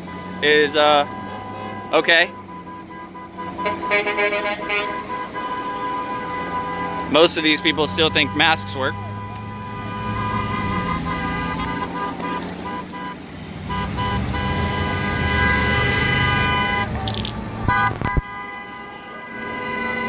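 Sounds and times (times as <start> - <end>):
cars driving past on highway: 0.0 - 20.0
car horn long blast: 0.1 - 17.0, 17.6 - 20.0.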